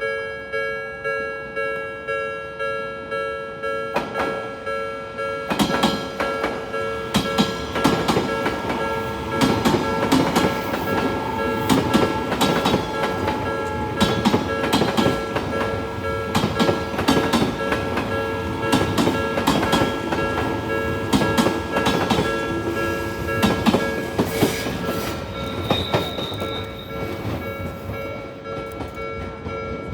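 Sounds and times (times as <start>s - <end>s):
level crossing warning bell: 0.0s - 29.9s
train wheels clacking on rails: 3.9s - 29.9s.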